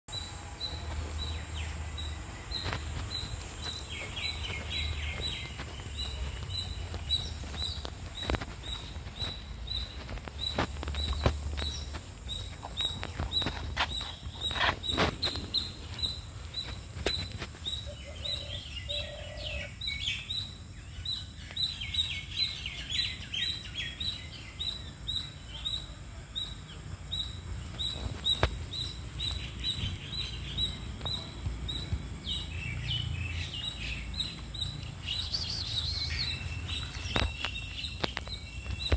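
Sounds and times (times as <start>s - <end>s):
birds chirping: 0.1s - 38.9s.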